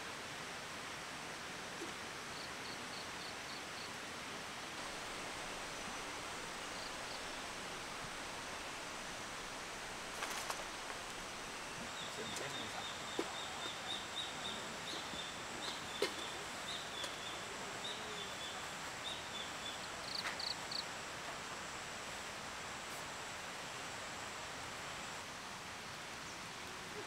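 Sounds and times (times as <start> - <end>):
forest hiss: 0.0 - 27.0.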